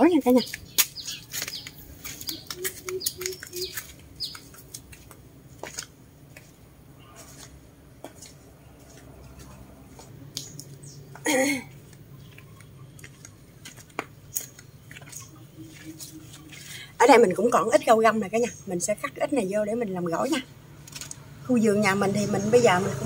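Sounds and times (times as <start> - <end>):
birds chirping: 0.0 - 20.6, 21.5 - 23.0.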